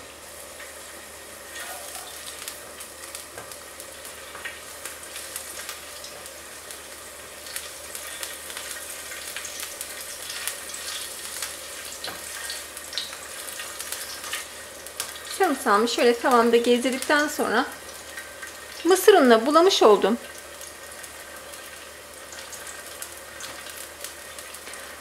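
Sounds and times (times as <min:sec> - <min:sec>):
garlic sizzling in hot oil: 0:00.0 - 0:25.0.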